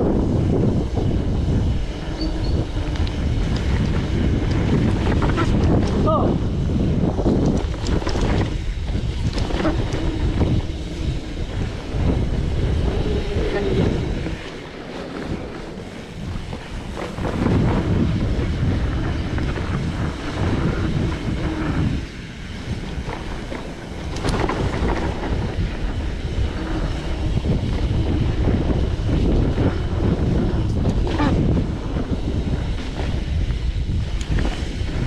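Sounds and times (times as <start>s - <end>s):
mountain bike rumbling on trail: 0.0s - 35.0s
wind buffeting microphone: 0.0s - 35.0s.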